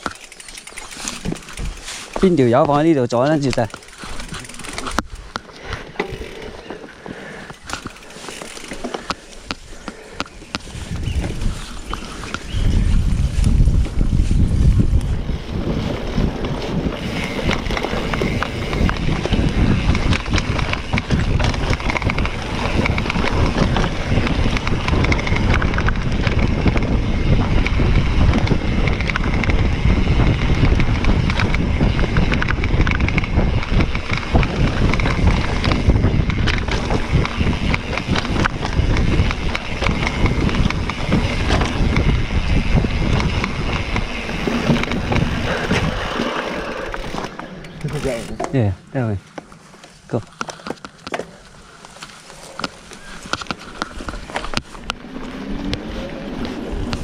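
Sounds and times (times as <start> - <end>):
wind buffeting microphone: 0.0 - 49.2, 52.4 - 57.0
bike clicks and rattles: 0.0 - 57.0.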